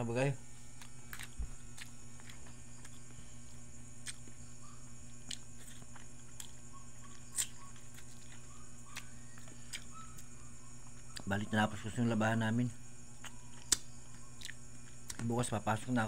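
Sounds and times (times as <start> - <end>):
low electrical hum: 0.0 - 16.0
crunching while eating: 0.2 - 16.0.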